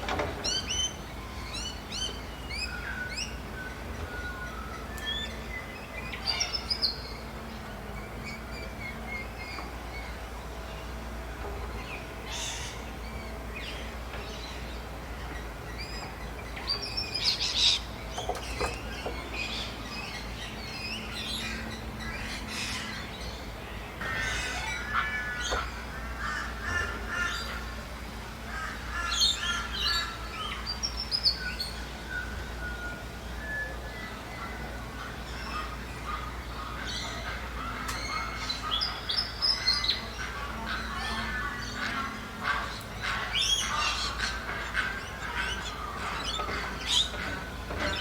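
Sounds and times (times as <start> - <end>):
birds chirping and trilling: 0.0 - 48.0.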